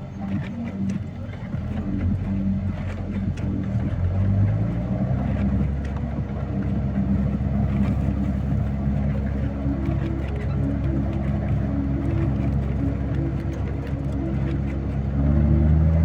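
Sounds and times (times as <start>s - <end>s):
heavy vehicle engine droning: 0.0s - 16.0s.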